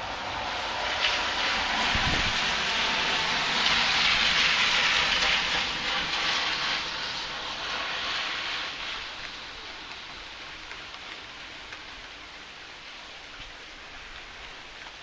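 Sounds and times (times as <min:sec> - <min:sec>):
heavy rain in strong wind: 0:00.0 - 0:15.0.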